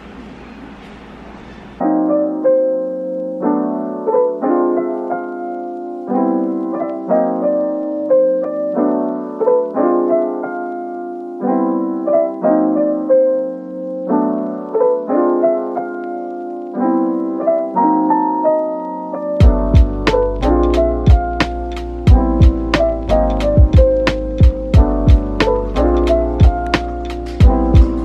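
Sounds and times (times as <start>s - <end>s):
low background noise: 0.0s - 28.0s
piano chords: 0.0s - 28.0s.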